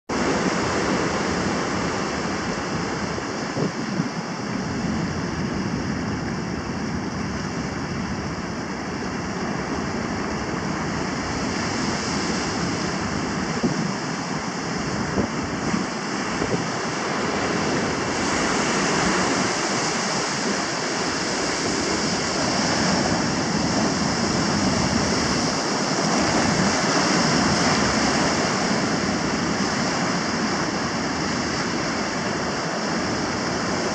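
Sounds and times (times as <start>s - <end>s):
ocean surf breaking: 0.1s - 33.9s.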